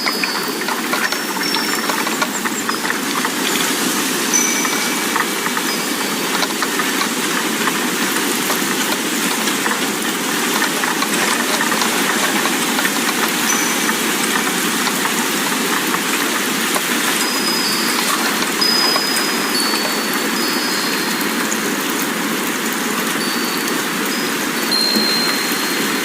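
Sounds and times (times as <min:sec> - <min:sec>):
wind chime notes: 0:00.0 - 0:08.9, 0:10.5 - 0:15.7, 0:17.0 - 0:21.6, 0:23.2 - 0:26.0.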